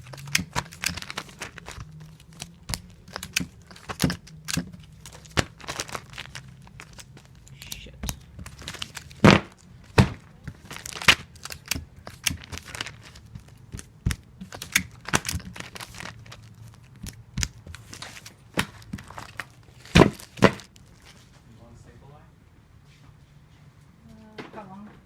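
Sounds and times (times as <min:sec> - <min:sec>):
tape torn from a dispenser: 0:00.0 - 0:21.1
paper rustling: 0:00.0 - 0:21.4.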